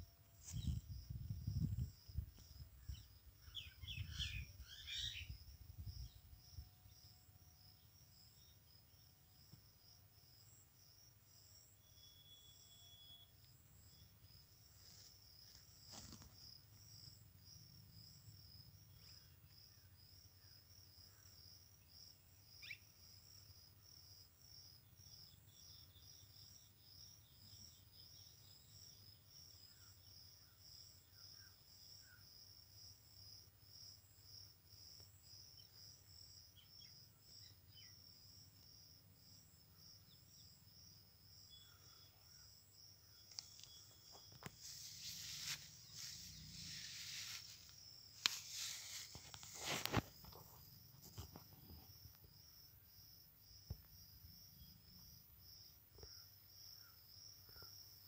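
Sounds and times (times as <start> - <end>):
faint insect chirping: 0.0 - 58.0.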